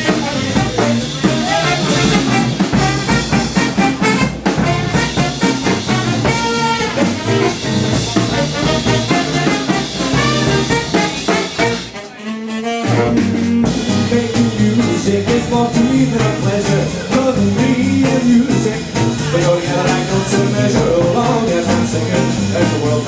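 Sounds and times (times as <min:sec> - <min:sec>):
big band swing music: 0:00.0 - 0:23.0.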